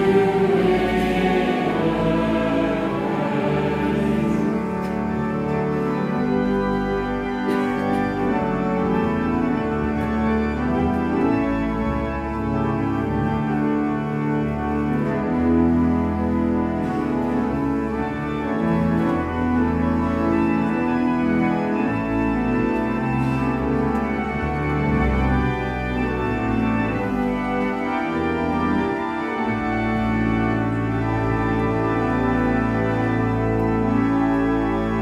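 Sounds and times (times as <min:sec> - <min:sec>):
church organ chords: 0:00.0 - 0:35.0
deep organ pedal bass notes: 0:00.0 - 0:35.0.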